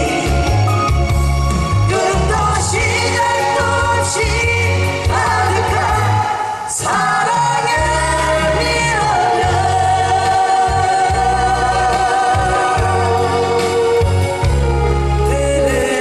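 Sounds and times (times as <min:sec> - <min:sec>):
amplified accompaniment with bass: 0:00.0 - 0:16.0
vocal group singing a ballad: 0:00.0 - 0:16.0.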